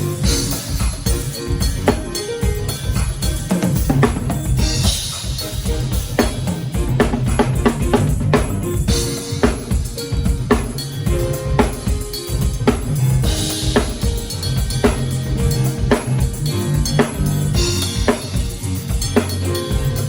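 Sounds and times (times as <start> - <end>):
band music: 0.0 - 20.0
drum kit beat: 0.0 - 20.0.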